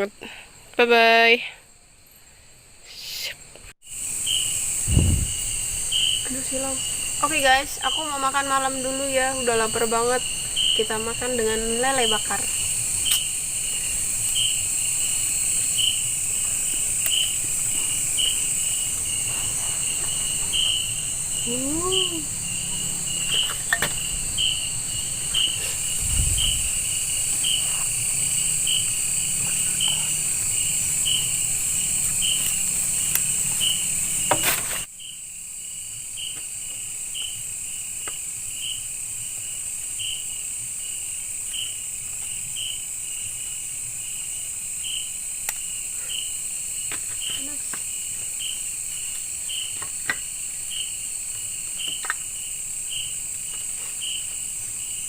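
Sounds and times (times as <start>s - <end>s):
cricket chirps: 0.0s - 55.0s
high insect buzz: 0.0s - 55.0s.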